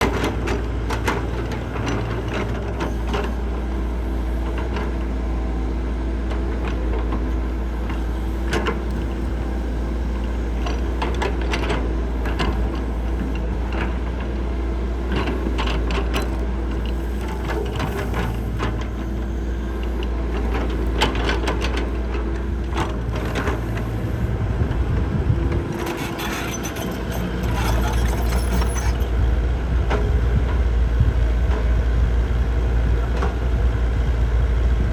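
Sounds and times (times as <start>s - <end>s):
heavy diesel machine running: 0.0s - 34.9s.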